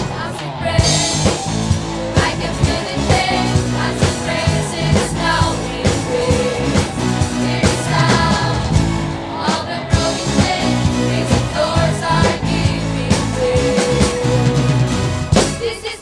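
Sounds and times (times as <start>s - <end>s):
choir singing: 0.0s - 16.0s
steady drum beat: 0.8s - 16.0s.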